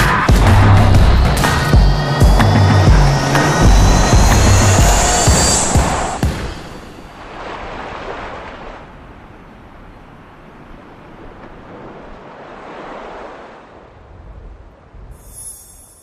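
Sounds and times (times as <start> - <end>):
surf washing on rocky shore: 0.4 - 15.1.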